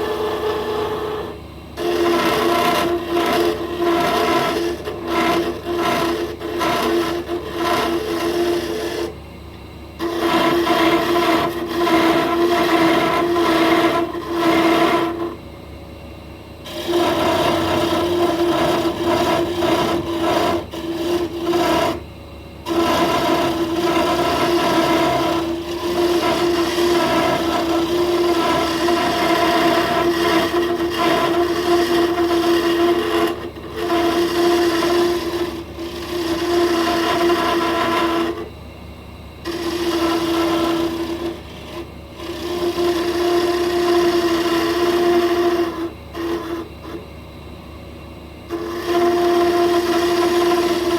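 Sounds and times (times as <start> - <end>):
tool scraping turning wood: 0.0 - 9.2, 10.0 - 15.4, 16.6 - 38.6, 39.4 - 47.1, 48.5 - 50.9
wood lathe spinning: 0.0 - 9.2, 10.0 - 15.5, 16.6 - 38.6, 39.4 - 47.0, 48.5 - 50.9.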